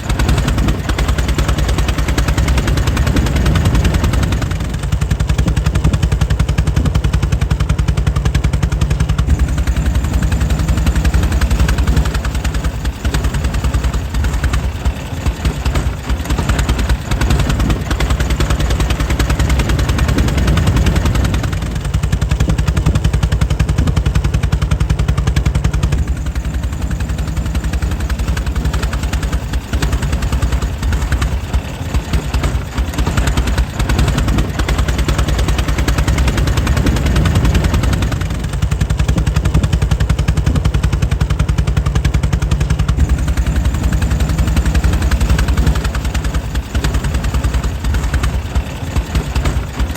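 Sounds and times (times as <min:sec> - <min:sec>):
air-cooled engine running: 0:00.0 - 0:49.9.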